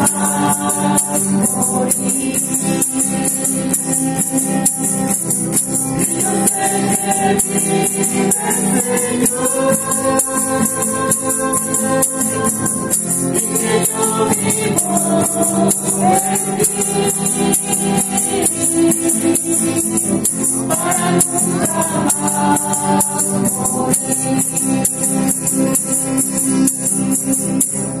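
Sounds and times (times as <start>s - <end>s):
group singing a hymn: 0.0s - 3.9s, 6.0s - 25.0s
shaker rattle: 0.0s - 28.0s
strummed acoustic guitars: 0.0s - 28.0s.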